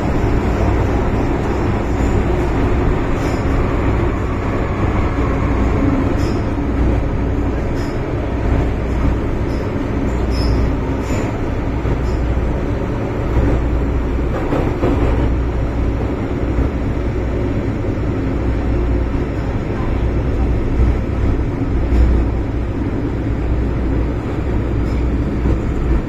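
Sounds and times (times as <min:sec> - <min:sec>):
train rumbling through tunnel: 0:00.0 - 0:26.0.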